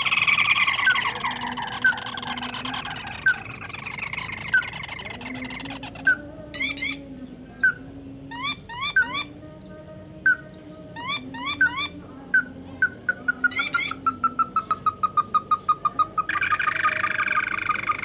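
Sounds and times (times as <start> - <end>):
crake calling: 0.0 - 18.0
low steady hum: 0.0 - 18.0.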